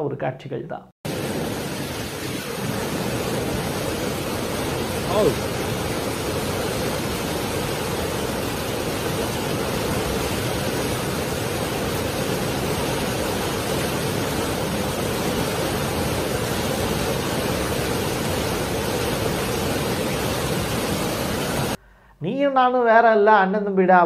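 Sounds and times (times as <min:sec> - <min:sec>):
floodwater rushing: 0:01.1 - 0:21.8.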